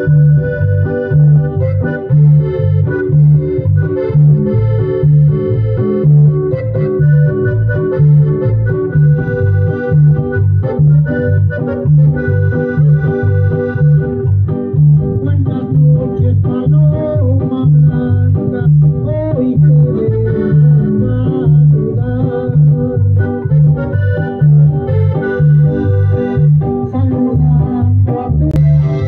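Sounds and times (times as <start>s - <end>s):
electronic keyboard organ chords: 0.0s - 29.0s
pulsing bass beat: 0.0s - 29.0s.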